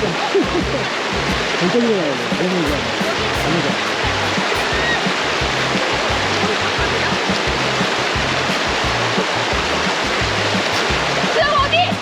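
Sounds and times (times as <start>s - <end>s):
low bass notes of music: 0.0s - 12.0s
stream rushing over rocks: 0.0s - 12.0s.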